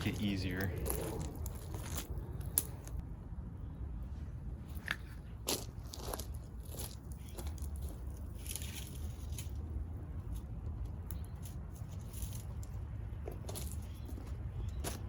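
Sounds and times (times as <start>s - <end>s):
low fire rumble: 0.0s - 13.6s.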